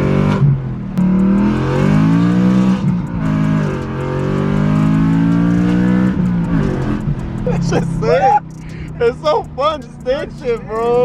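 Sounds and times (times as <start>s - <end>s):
car engine revving loudly: 0.0s - 11.0s.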